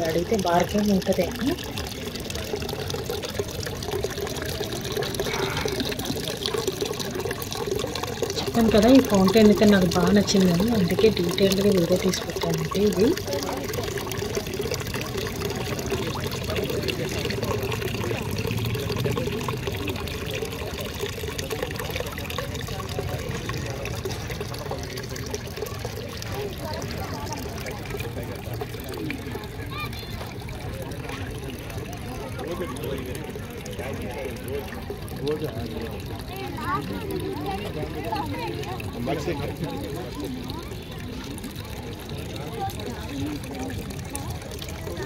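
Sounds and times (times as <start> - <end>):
water trickling over stones: 0.0 - 45.0.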